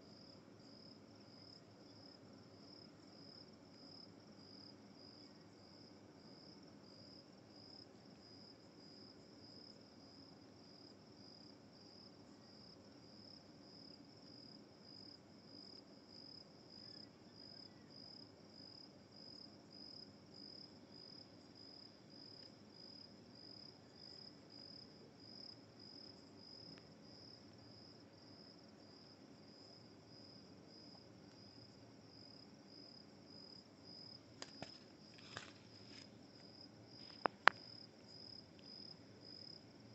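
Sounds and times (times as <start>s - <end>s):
faint cricket chirping: 0.0s - 39.9s.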